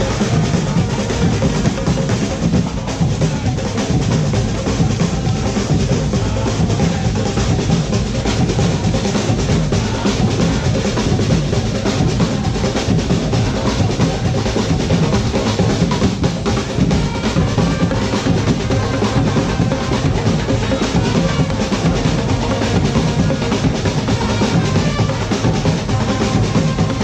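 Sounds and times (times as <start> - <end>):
drums playing dense rhythm: 0.0 - 27.0.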